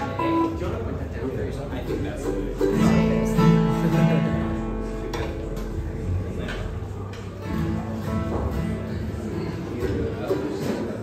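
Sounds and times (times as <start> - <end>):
acoustic guitar picked and strummed: 1.9 - 11.0.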